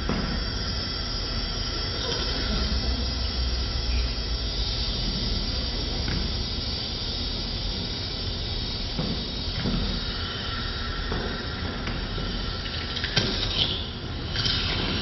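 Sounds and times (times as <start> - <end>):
hissing noise drone: 0.0 - 12.7.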